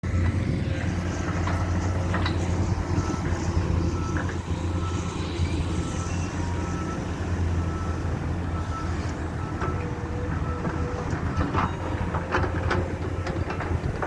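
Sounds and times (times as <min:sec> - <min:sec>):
diesel machinery engine drone: 0:00.0 - 0:14.0
reversing alarm beeping: 0:01.4 - 0:13.9.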